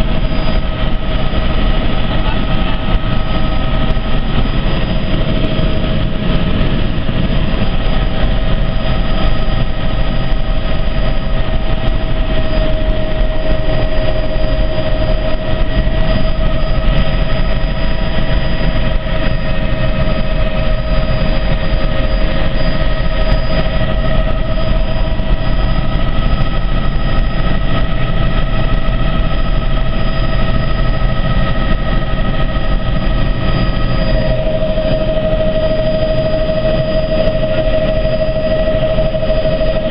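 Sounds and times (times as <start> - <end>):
helicopter engine and rotor drone: 0.0 - 39.9
high whine: 0.0 - 39.9.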